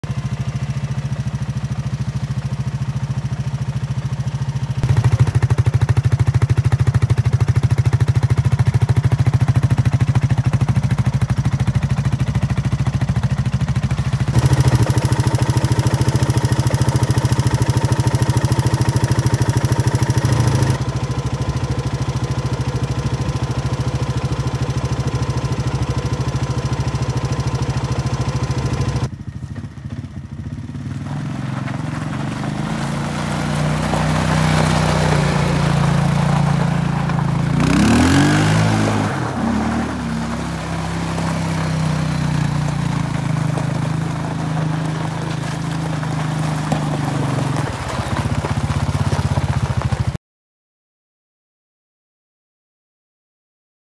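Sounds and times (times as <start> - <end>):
atv engine idling: 0.0 - 50.2.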